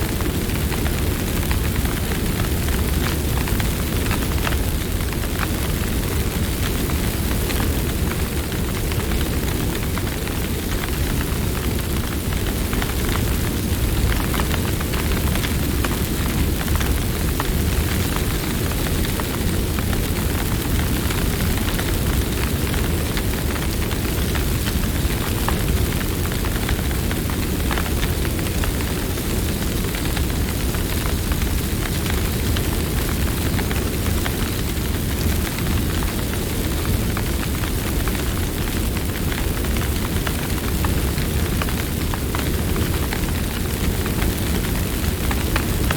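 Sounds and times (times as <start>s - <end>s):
campfire flames rumbling: 0.0s - 45.9s
fire crackles and pops: 0.0s - 45.9s.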